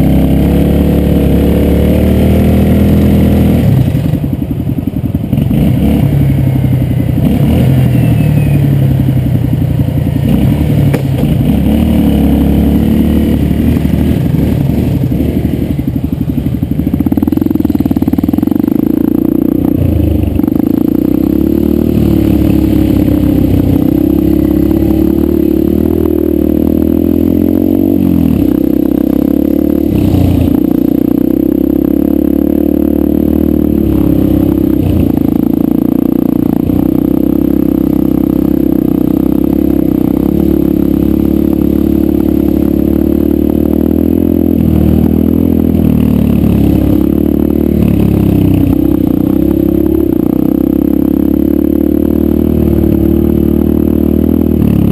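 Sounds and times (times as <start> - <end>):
dirt bike engine revving: 0.0 - 4.3, 5.3 - 9.3, 9.9 - 54.9.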